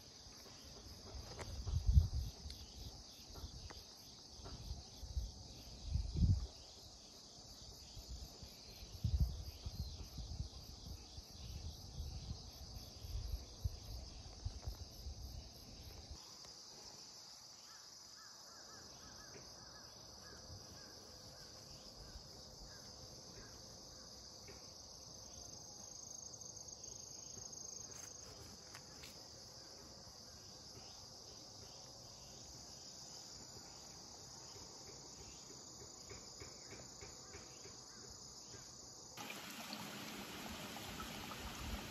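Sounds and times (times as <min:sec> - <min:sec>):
crickets chirring: 0:00.0 - 0:41.9.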